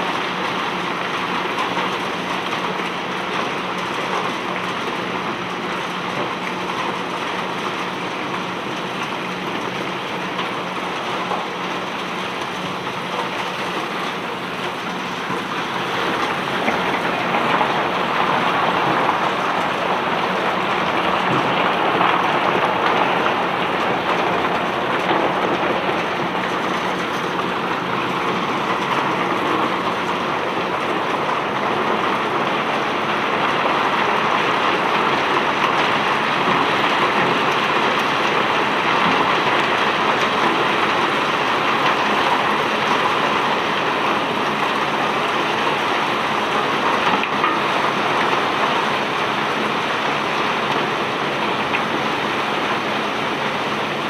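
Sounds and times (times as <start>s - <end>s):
cobblestones pouring and rattling: 0.3s - 52.2s.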